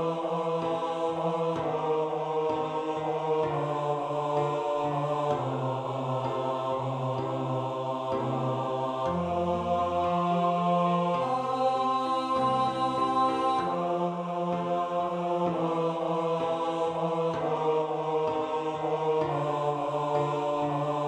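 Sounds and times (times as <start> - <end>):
synthesized choir voices: 0.0 - 21.0.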